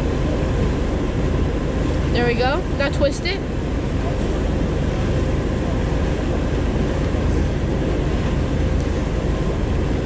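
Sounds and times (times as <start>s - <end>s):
motorboat engine drone: 0.0s - 10.0s
water rushing: 0.0s - 10.0s.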